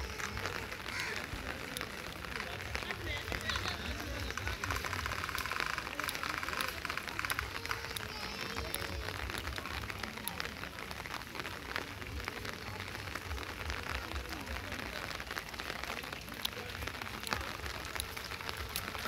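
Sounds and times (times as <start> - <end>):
steady rain on paving and foliage: 0.0 - 19.0
drops ticking close by: 0.1 - 19.0.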